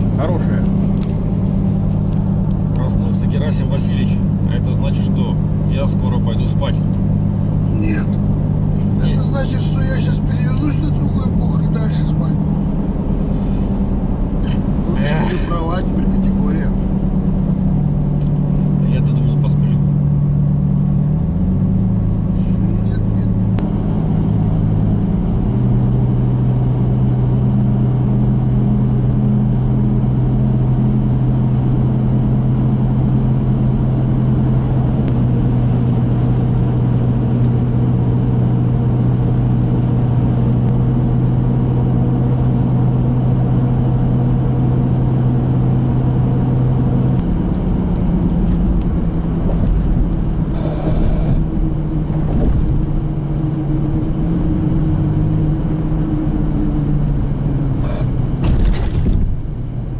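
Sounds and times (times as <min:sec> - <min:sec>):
engine and road drone: 0:00.0 - 0:59.9
strong low hum: 0:00.0 - 0:59.9.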